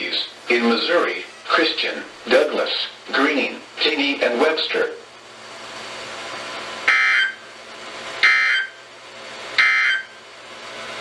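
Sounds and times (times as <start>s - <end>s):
receiver hiss: 0.0s - 11.0s.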